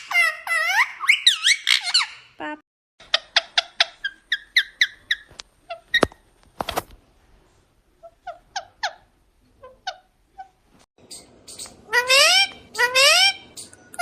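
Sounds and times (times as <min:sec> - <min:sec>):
parrot chirping: 0:00.0 - 0:02.4, 0:03.0 - 0:06.0, 0:08.0 - 0:14.0.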